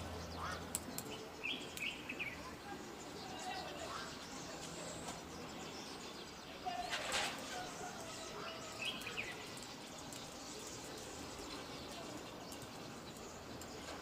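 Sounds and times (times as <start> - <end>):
noisy rustle: 0.0 - 14.0
steady outdoor hiss: 0.0 - 14.0.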